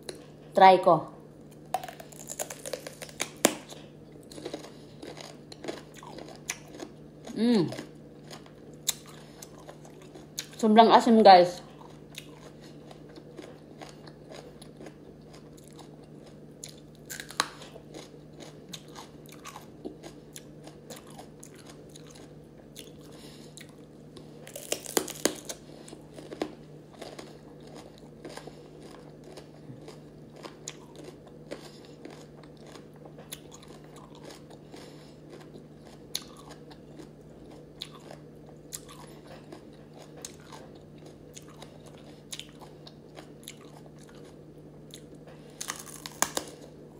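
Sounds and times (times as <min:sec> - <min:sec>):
chewing crisp vegetable: 0:01.4 - 0:10.6, 0:11.5 - 0:46.9.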